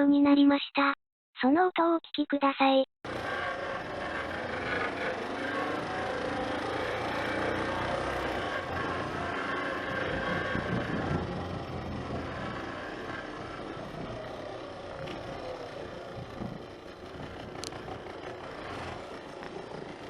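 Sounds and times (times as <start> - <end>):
motorcycle engine running: 3.0 - 20.0.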